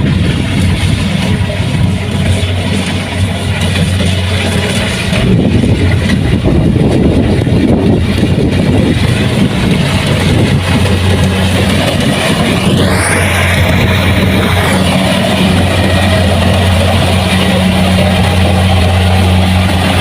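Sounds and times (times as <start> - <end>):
combine harvester engine hum: 0.0 - 20.0
mechanical clatter: 0.0 - 20.0.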